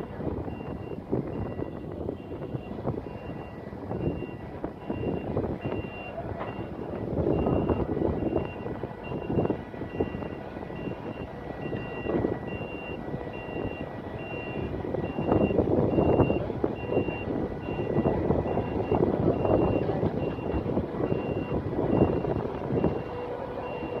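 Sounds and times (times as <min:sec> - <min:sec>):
crane alarm beeping: 0:00.0 - 0:24.0
wind buffeting microphone: 0:00.0 - 0:24.0.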